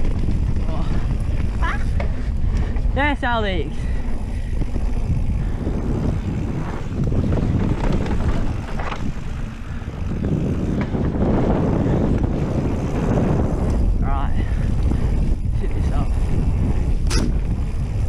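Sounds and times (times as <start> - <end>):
bike clicking and rattling: 0.0 - 18.0
tyres rolling over dirt trail: 0.0 - 18.0
wind noise on microphone: 0.0 - 18.0.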